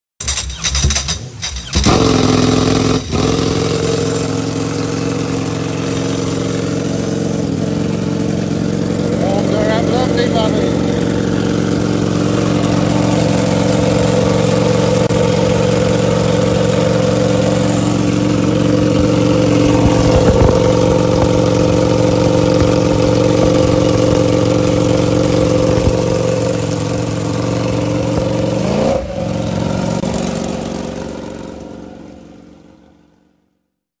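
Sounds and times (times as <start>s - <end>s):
motorcycle engine idling: 0.2s - 33.3s.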